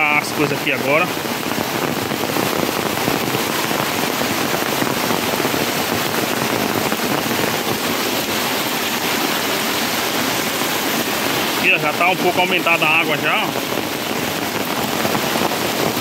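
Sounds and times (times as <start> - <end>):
heavy rain falling: 0.0 - 16.0
stream running over rocks: 0.0 - 16.0.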